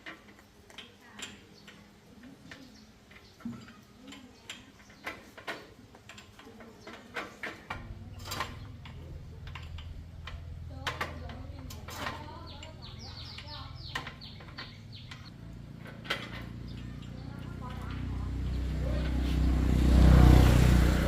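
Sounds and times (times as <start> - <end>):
tools and metal parts clicking: 0.0 - 19.2.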